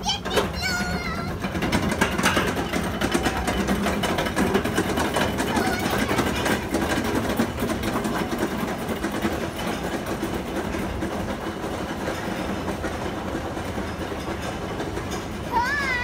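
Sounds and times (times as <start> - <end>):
chain lift clicking clatter: 0.8 - 16.0.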